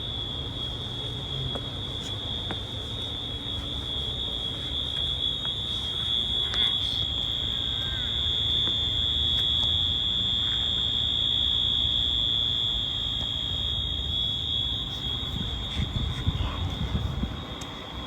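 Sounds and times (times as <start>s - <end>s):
fire alarm tone: 0.0s - 15.7s.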